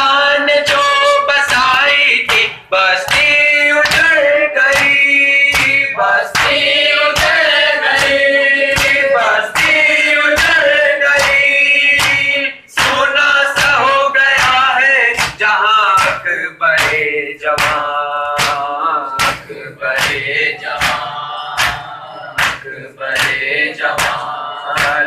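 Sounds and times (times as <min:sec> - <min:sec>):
men singing a lament: 0:00.0 - 0:25.0
hands slapping chests: 0:01.5 - 0:10.6, 0:11.2 - 0:16.2, 0:16.8 - 0:25.0.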